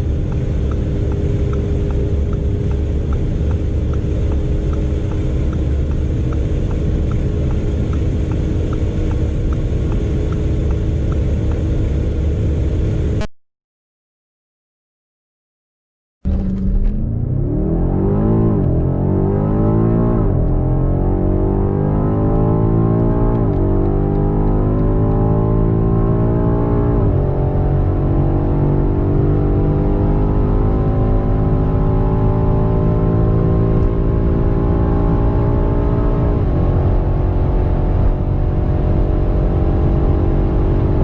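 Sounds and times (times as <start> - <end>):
engine accelerating with upshifts: 0.0 - 13.3, 16.3 - 41.0.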